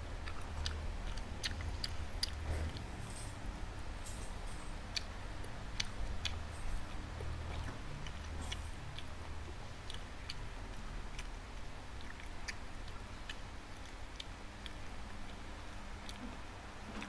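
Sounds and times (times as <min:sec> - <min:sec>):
person chewing food: 0:00.0 - 0:03.2, 0:04.3 - 0:17.0.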